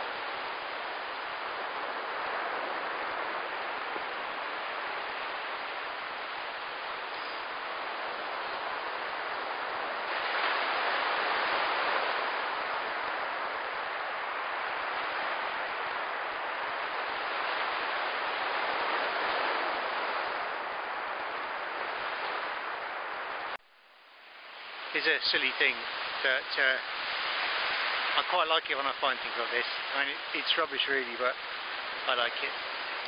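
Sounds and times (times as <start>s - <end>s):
surf washing onto beach: 0.0s - 23.6s, 24.5s - 33.0s.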